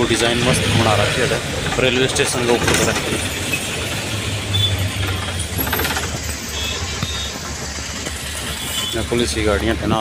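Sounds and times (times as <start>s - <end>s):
road traffic: 0.0s - 10.0s
vehicle engine humming: 0.0s - 10.0s.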